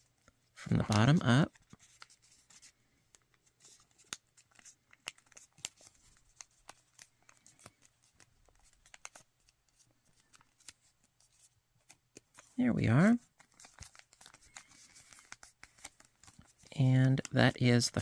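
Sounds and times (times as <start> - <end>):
paper being folded and creased: 0.0 - 18.0.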